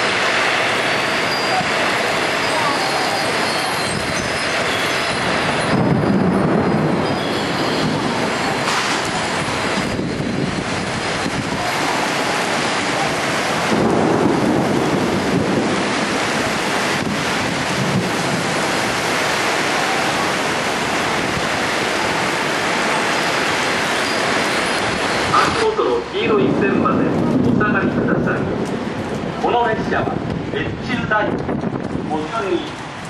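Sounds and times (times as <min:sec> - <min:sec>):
torrential rain hissing: 0:00.0 - 0:33.0.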